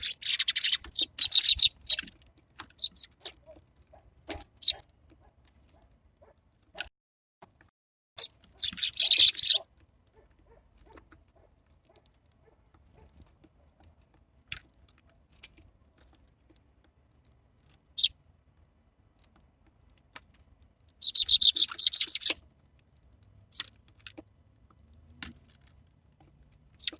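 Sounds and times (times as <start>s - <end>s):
small birds clicking: 0.0s - 5.9s, 8.2s - 26.9s.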